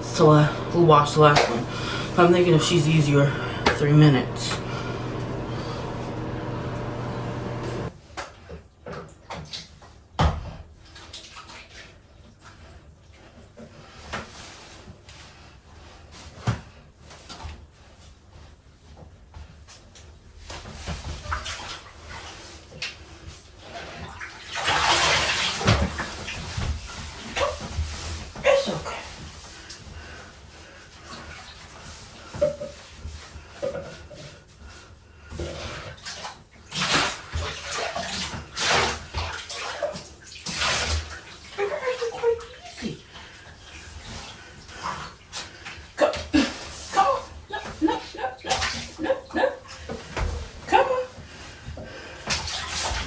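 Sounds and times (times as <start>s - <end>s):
water splashing in a bathtub: 0.0s - 18.4s, 19.4s - 53.0s.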